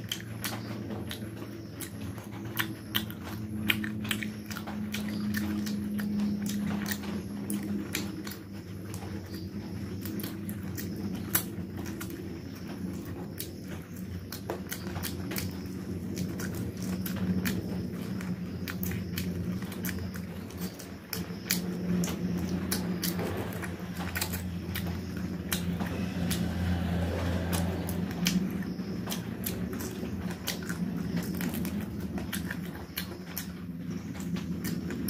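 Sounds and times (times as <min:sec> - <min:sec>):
low hum: 0:00.0 - 0:35.0
person chewing with wet smacks: 0:00.0 - 0:35.0.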